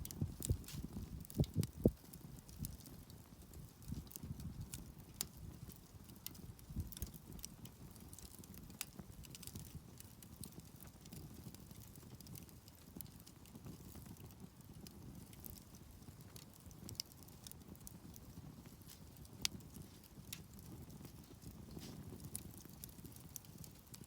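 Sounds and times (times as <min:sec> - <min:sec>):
campfire crackling and popping: 0:00.0 - 0:24.0
rumble of burning wood: 0:00.0 - 0:24.0.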